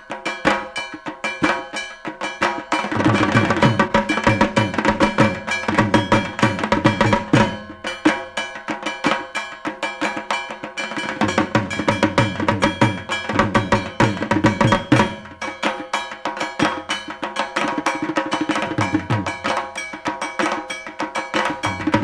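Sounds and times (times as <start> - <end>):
fast drum strokes: 0.0 - 22.0.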